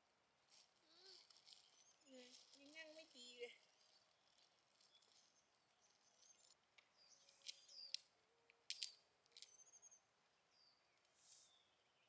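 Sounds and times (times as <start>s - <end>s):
birds calling faintly: 0.5s - 12.0s.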